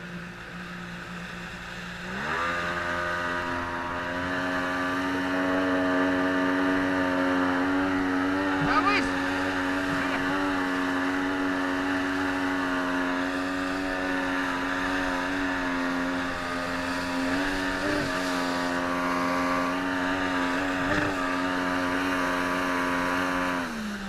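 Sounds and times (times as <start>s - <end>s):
boat engine running under load: 0.0s - 24.0s.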